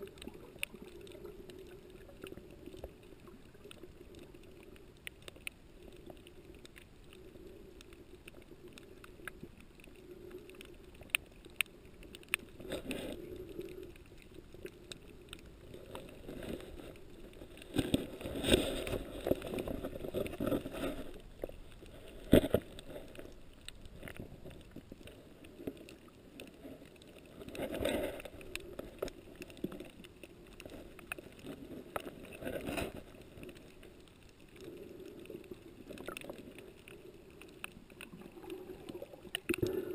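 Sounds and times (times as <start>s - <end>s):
low underwater hum: 0.0s - 39.9s
rushing bubbling water: 0.0s - 39.9s
sharp clicks and crackles: 0.0s - 39.9s.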